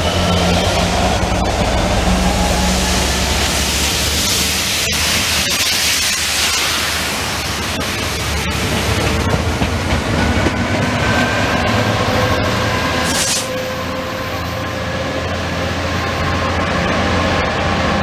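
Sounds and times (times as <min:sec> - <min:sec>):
locomotive engine and wheels rumble: 0:00.0 - 0:18.0.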